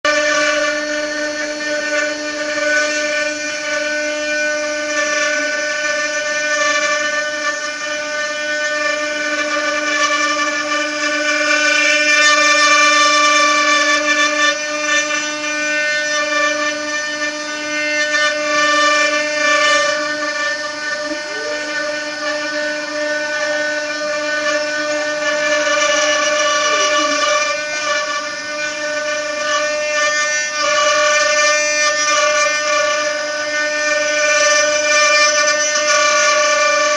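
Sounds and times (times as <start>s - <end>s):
router spindle whining: 0.0s - 36.9s
hissing wood cutting: 0.1s - 36.9s
sliding tones: 5.2s - 36.9s.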